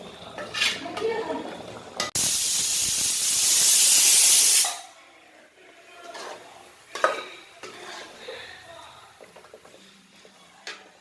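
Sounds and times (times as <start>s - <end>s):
cooking pot hissing: 0.0s - 4.9s, 5.7s - 11.0s.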